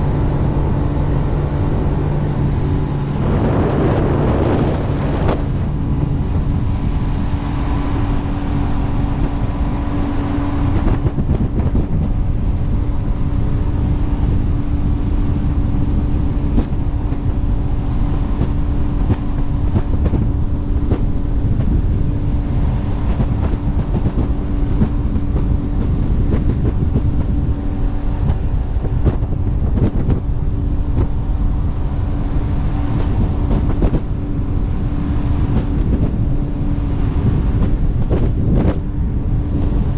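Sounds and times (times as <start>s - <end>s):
boat engine rumble: 0.0s - 39.9s
rushing and buffeting water: 0.0s - 39.9s.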